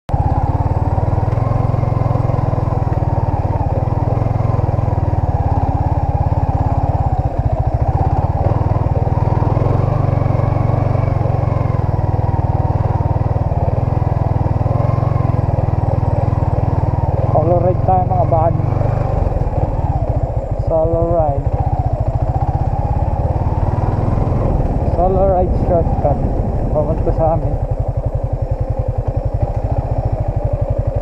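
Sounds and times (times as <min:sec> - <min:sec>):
motorcycle engine rumbling: 0:00.1 - 0:31.0.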